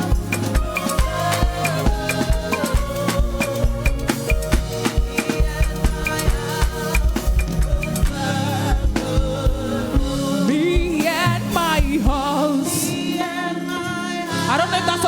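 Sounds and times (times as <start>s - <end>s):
bass and drum beat: 0.0s - 12.4s
held chords: 0.0s - 15.0s
person singing gospel: 0.0s - 15.0s.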